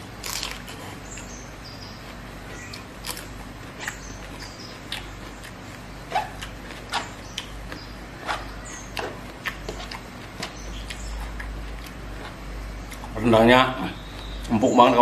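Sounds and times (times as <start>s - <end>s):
chewing and lip smacking: 0.2s - 13.2s.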